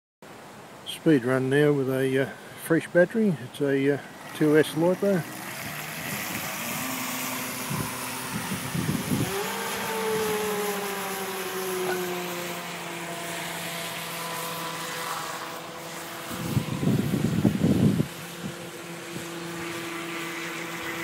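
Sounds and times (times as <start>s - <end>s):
electric motors whining: 4.0s - 21.0s.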